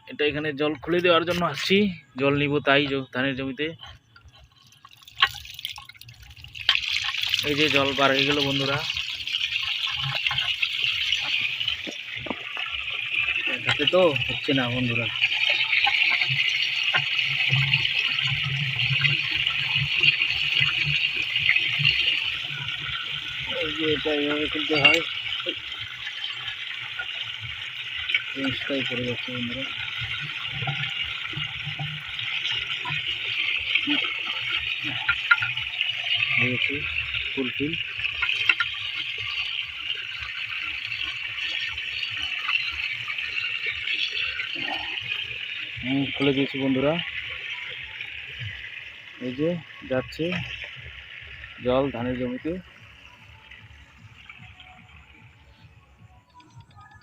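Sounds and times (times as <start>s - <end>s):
water gushing from outlet: 0.5s - 57.0s.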